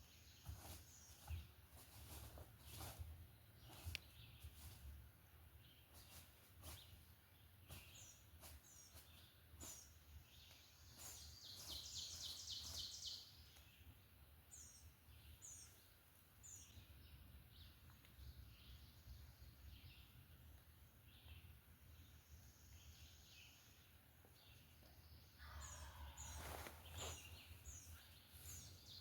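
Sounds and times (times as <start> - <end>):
faint songbird chirps: 0.0 - 29.0.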